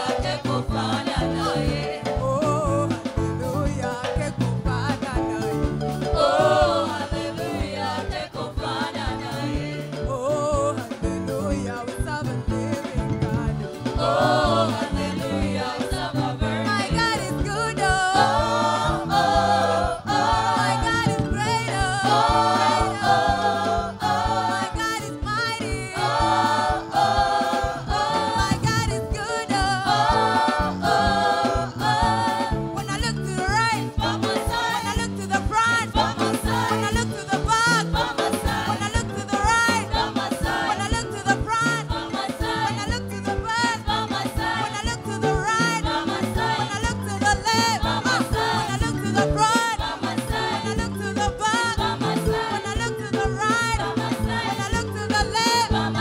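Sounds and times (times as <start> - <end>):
drum kit: 0.0 - 56.0
group singing gospel: 0.0 - 56.0.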